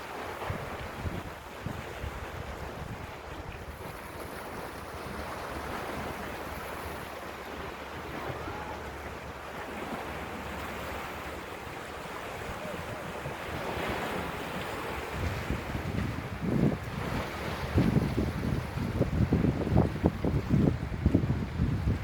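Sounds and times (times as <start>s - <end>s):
waves washing on shore: 0.0s - 22.0s
wind rumbling on microphone: 0.2s - 22.0s.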